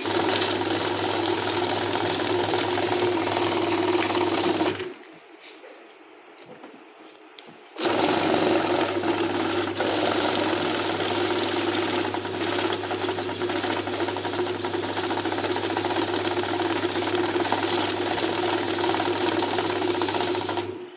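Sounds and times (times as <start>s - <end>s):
banknote counting machine whirring: 0.0s - 4.9s, 7.8s - 20.9s.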